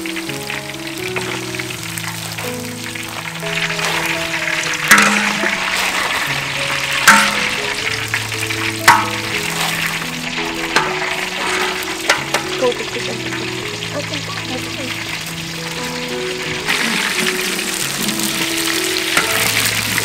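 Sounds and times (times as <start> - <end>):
background music: 0.0 - 20.0
food sizzling in a pan: 0.0 - 20.0.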